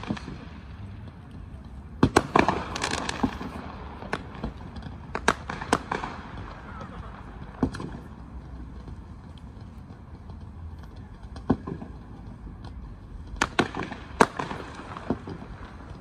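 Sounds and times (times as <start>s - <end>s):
distant fireworks bursting: 0.0s - 16.0s.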